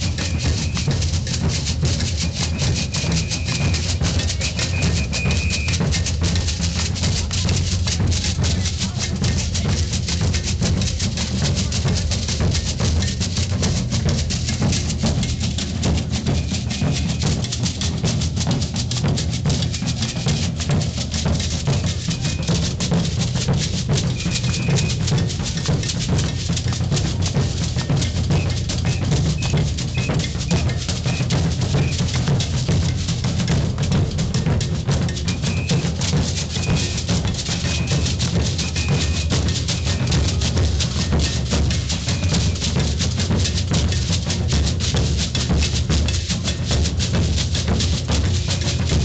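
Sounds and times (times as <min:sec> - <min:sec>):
bass drums pounding: 0:00.0 - 0:49.0
rapid snare and shaker: 0:00.0 - 0:49.0.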